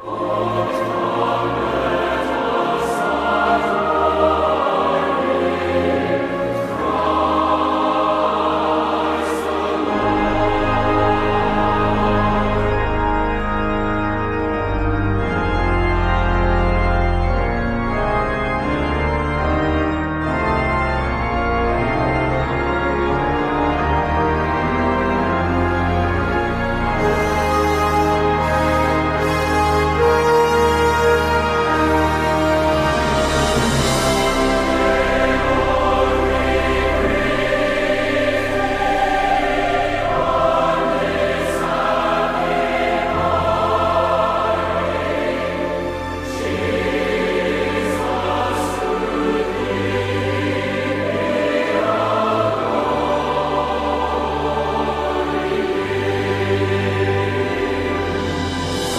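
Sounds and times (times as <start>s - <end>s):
organ chords: 0.0s - 58.9s.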